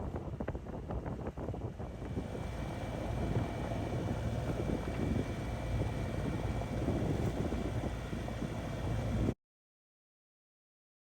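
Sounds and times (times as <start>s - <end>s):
wind buffeting microphone: 0.0s - 9.4s
boat motor rumbling: 0.4s - 9.4s.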